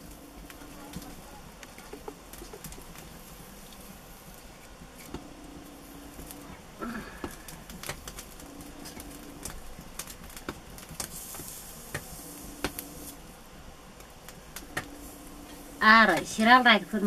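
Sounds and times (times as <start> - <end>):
small clicks and crackles: 0.0 - 13.2, 13.9 - 17.0.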